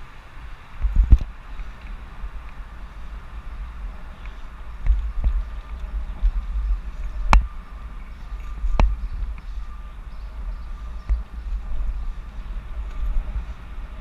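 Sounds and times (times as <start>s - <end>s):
bicycle rumble: 0.0s - 14.0s
wind rushing over microphone: 0.0s - 14.0s.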